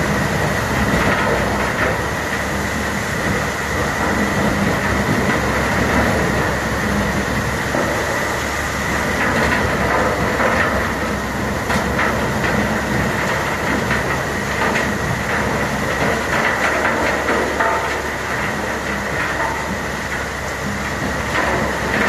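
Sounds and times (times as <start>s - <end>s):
diesel engine running hard: 0.0s - 22.0s.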